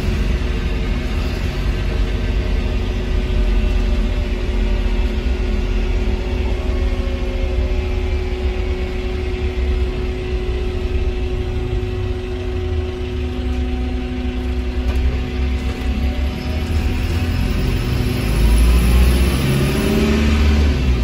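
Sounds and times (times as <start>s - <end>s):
bus drivetrain and road rumble: 0.0s - 21.0s
steady humming tone: 0.0s - 21.0s.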